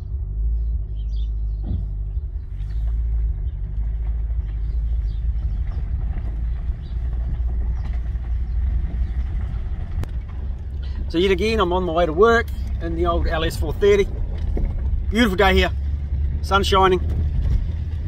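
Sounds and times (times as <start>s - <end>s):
car engine rumble: 0.0s - 18.0s
road noise: 0.0s - 18.0s.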